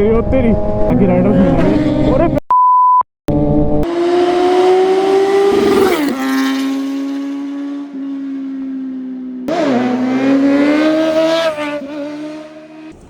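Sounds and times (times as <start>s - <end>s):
motorcycle engine at high revs: 0.4s - 2.4s, 3.3s - 13.0s.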